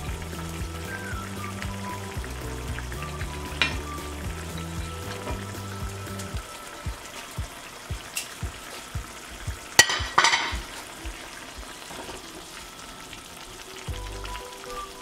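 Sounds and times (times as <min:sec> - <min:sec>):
salsa simmering and sizzling in a pan: 0:00.0 - 0:15.0.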